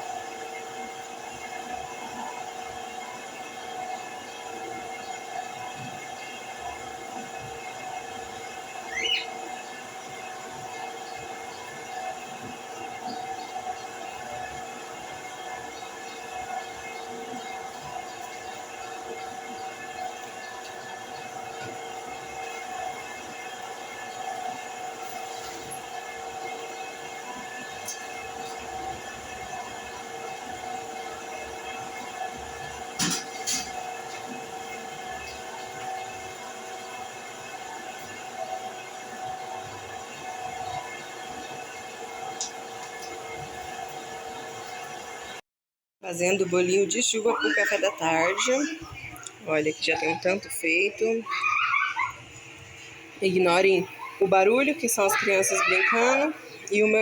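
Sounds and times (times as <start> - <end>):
appliance motor hum: 0.0 - 45.4, 46.1 - 57.0.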